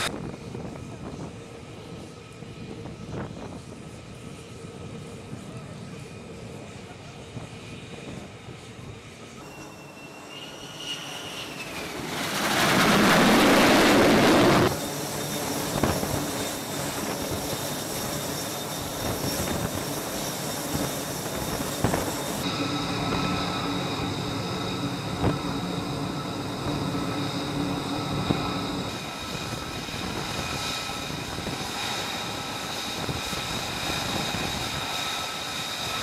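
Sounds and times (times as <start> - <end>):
jet engine whine and roar: 0.0 - 36.0.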